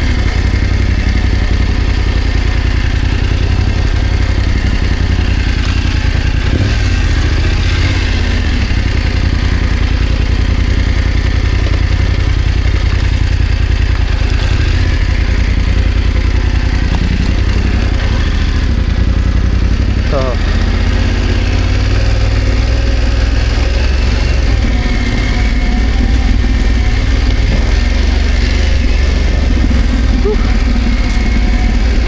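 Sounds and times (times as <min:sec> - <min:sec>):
motorcycle engine running at low revs: 0:00.0 - 0:32.0.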